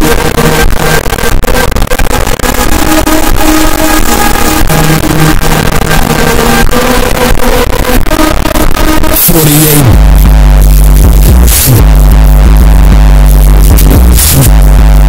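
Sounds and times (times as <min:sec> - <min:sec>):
loud distorted music: 0:00.0 - 0:15.0.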